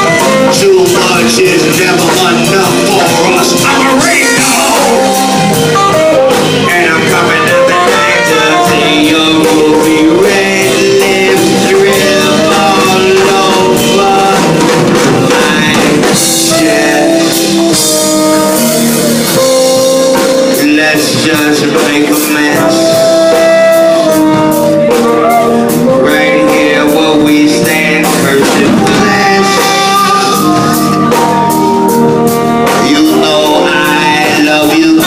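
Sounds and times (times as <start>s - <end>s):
drum kit: 0.0s - 35.0s
lead guitar lines: 0.0s - 35.0s
live blues band playing: 0.0s - 35.0s.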